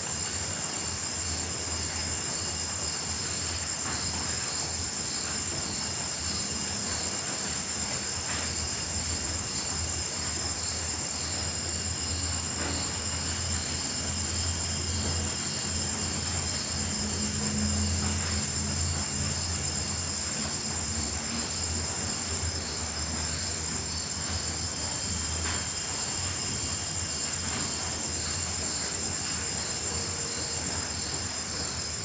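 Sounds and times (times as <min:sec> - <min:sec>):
crickets chirring: 0:00.0 - 0:32.0.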